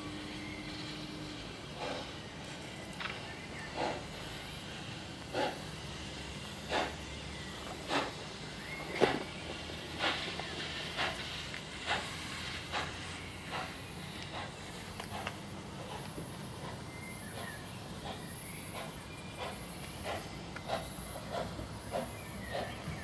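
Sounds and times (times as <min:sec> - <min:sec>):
steady steam hiss: 0:00.0 - 0:23.0
steam locomotive exhaust beats: 0:00.0 - 0:23.0.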